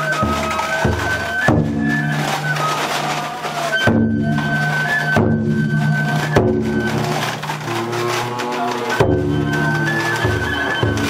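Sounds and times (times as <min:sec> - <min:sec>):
high held flute melody: 0:00.0 - 0:11.0
taiko drum strokes: 0:00.0 - 0:11.0.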